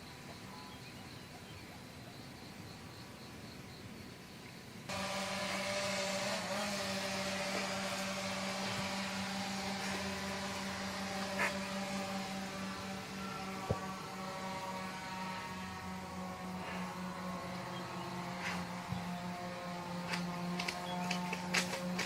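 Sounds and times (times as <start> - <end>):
buzzing mechanical hum: 0.0 - 22.0.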